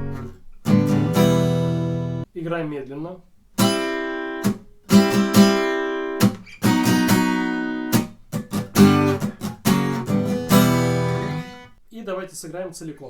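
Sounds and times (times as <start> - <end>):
acoustic guitar strumming: 0.0 - 2.3, 3.6 - 11.8.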